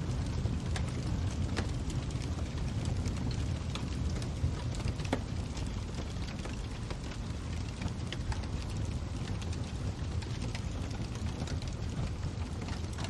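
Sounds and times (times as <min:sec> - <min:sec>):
fire popping and snapping: 0:00.0 - 0:13.0
low rumble of flames: 0:00.0 - 0:13.0.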